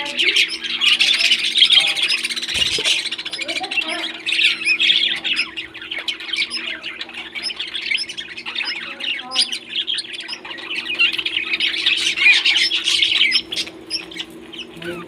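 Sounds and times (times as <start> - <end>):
parrots chattering and squawking: 0.0 - 15.0
steady low hum: 0.0 - 15.0.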